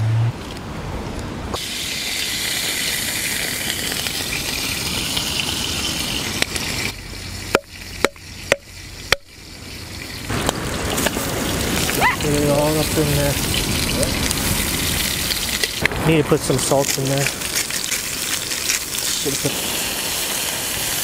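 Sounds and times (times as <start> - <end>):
meat sizzling in hot oil: 1.6 - 21.0.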